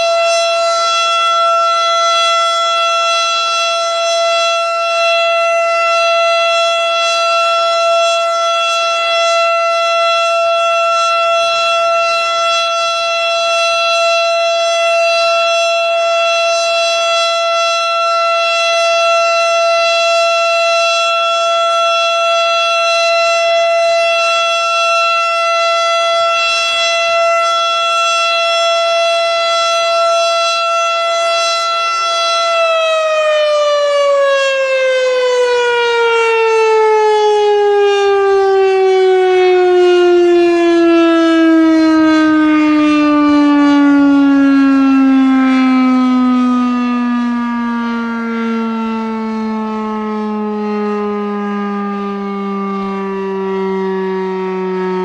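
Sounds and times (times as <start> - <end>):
air raid siren winding down: 0.0 - 55.0.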